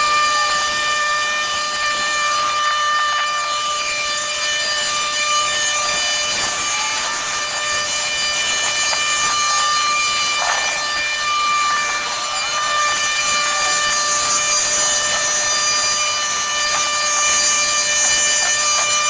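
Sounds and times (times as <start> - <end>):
small power tool running: 0.0 - 19.0.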